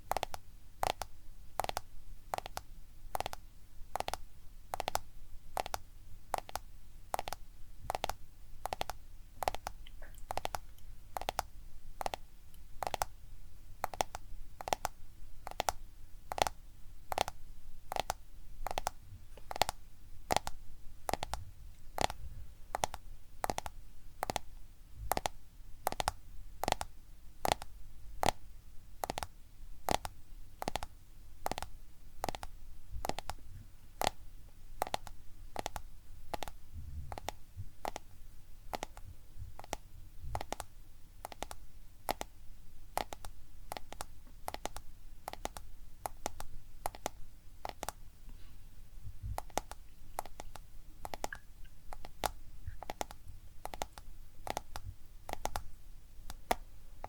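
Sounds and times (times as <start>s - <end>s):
fingertips tapping on a smartphone: 0.0s - 13.2s, 13.8s - 28.4s, 29.0s - 33.4s, 34.0s - 34.2s, 34.8s - 48.4s, 49.0s - 56.7s.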